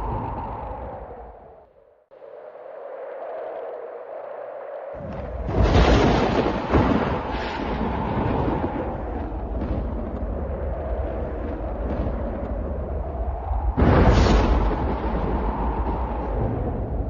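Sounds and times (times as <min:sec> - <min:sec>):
thunderclap and rolling rumble: 0:00.0 - 0:01.7, 0:02.3 - 0:17.0.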